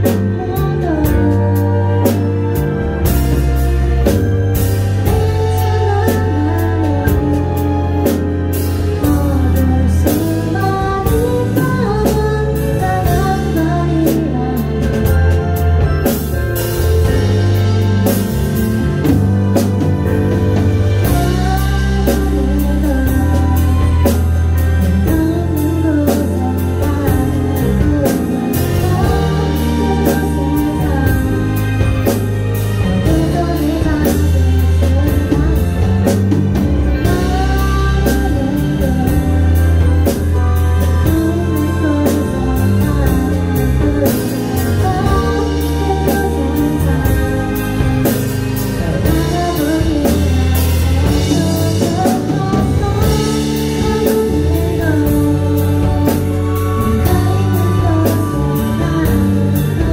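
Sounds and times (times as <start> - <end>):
woman singing: 0.0 - 20.0, 20.8 - 59.9
keyboard and band music: 0.0 - 59.9.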